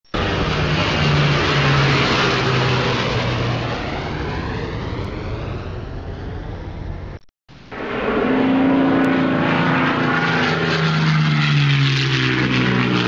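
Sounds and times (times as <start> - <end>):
jet airliner engines rushing: 0.1 - 13.0.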